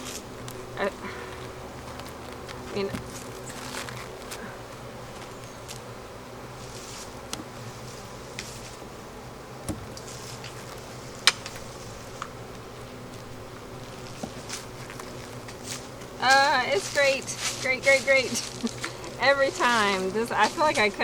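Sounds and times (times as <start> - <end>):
honeybee colony buzzing: 0.0 - 21.0.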